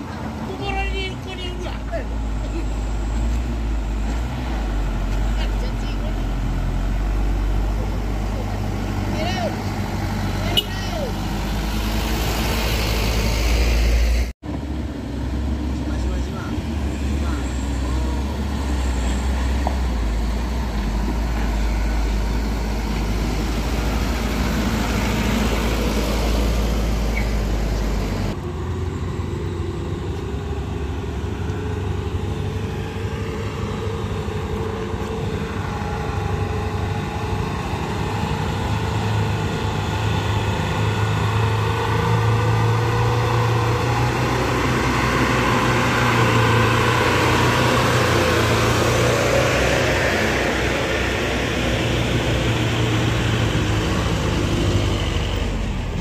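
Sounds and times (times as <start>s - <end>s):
truck engine rumbling uphill: 0.0s - 56.0s.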